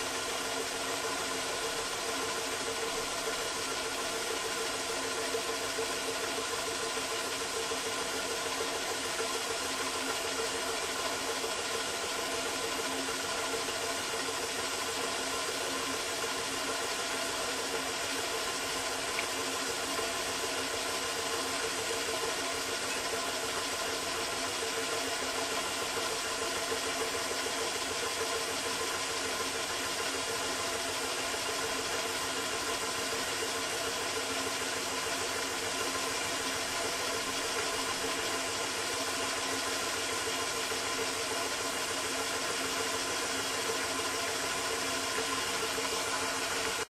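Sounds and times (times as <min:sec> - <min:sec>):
water heating in a pot: 0:00.0 - 0:46.9.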